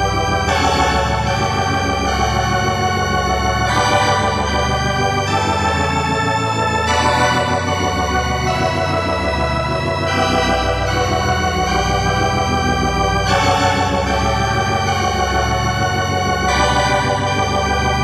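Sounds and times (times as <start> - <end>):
dungeon synth music: 0.0 - 18.0.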